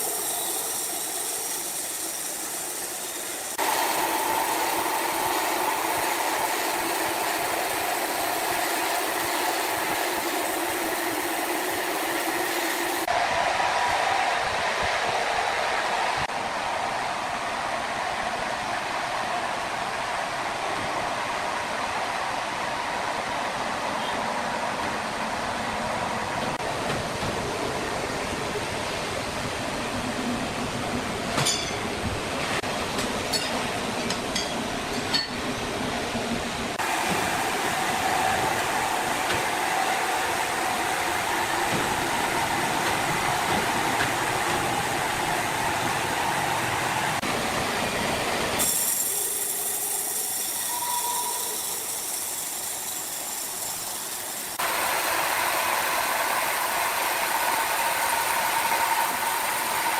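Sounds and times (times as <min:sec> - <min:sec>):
sawmill machinery running: 0:00.0 - 0:13.2, 0:25.0 - 0:59.9.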